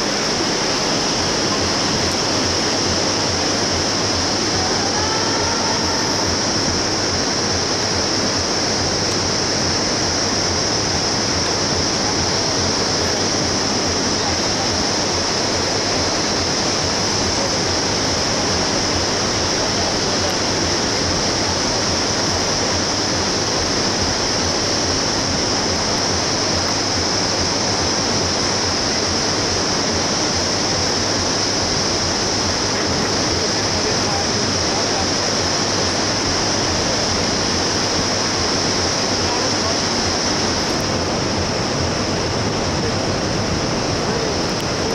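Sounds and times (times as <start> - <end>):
river rapids rushing: 0.0 - 44.9.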